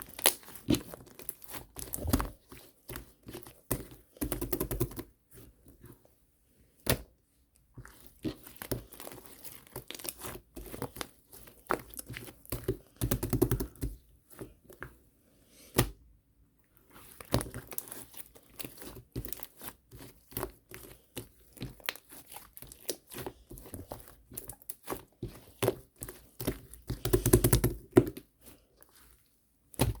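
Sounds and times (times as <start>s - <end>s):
slime squished by hand: 0.0s - 5.5s, 7.8s - 14.7s, 16.7s - 30.0s.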